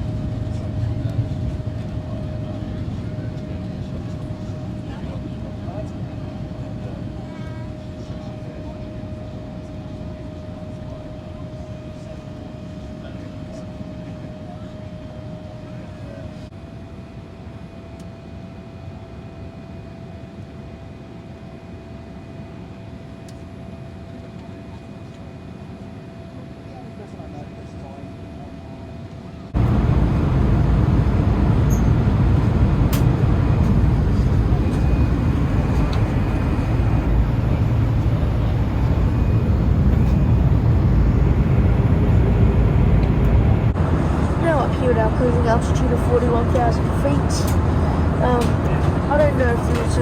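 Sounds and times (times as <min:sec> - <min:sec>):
airplane cabin airflow and engine noise: 0:00.0 - 0:50.0.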